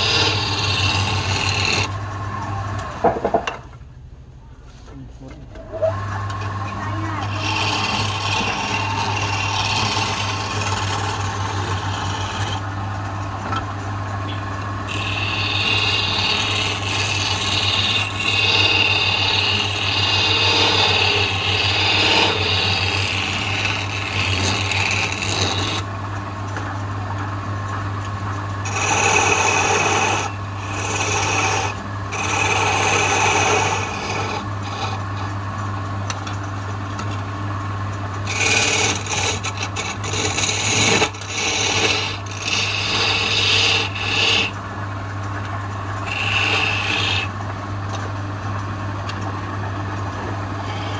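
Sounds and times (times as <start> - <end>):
chisel scraping spinning wood: 0.0 - 3.6, 5.6 - 26.0, 28.5 - 35.4, 38.2 - 44.7, 45.4 - 50.9
lathe low hum: 0.0 - 50.9.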